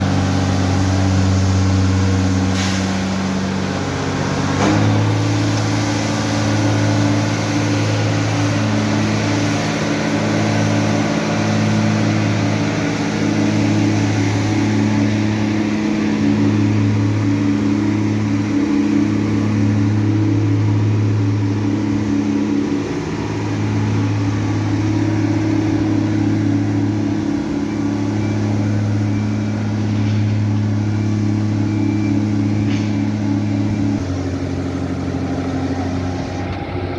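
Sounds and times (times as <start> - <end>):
truck engine running: 0.0 - 36.9.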